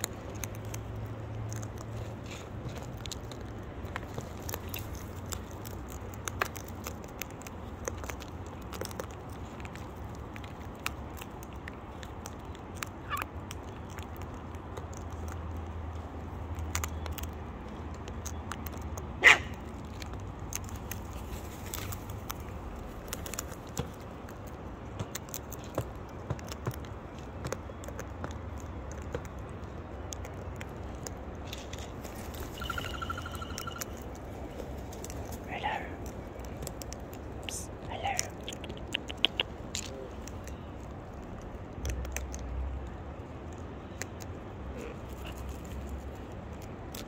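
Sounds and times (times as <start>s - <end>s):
seed cracking: 0.0s - 47.0s
steady low rumble: 0.0s - 47.0s.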